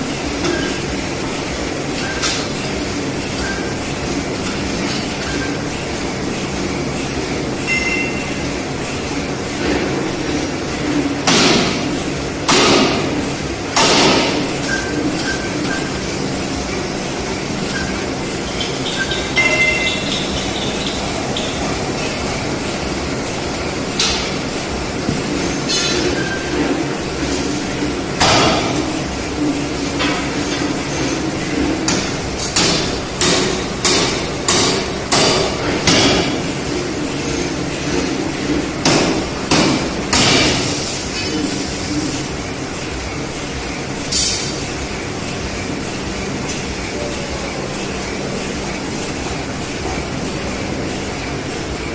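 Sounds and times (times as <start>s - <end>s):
machinery hum: 0.0s - 51.9s.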